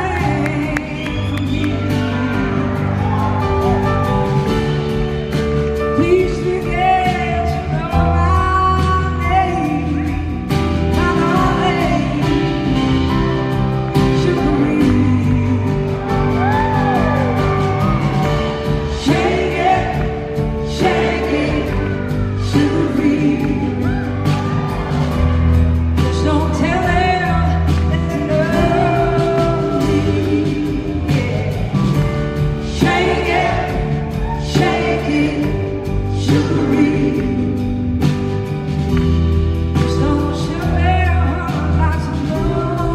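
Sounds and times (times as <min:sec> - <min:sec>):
woman singing: 0:00.0 - 0:03.4, 0:05.8 - 0:17.5, 0:18.6 - 0:24.5, 0:26.0 - 0:38.2, 0:39.7 - 0:42.9
blues-rock band playing: 0:00.0 - 0:42.9.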